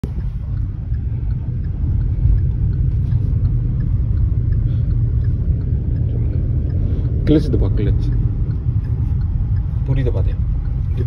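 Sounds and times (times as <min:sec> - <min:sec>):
car interior road and engine rumble: 0:00.0 - 0:11.0.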